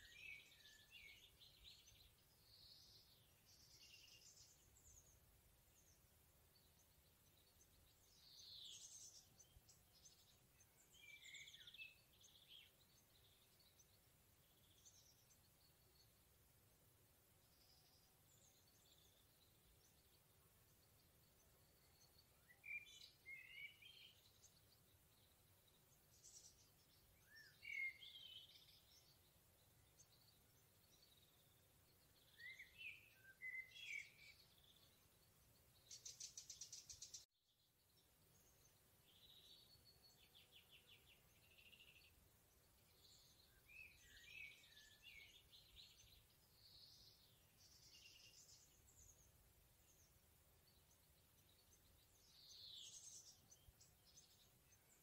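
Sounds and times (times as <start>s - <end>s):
low steady background noise: 0.0s - 55.0s
songbirds singing: 0.0s - 55.0s.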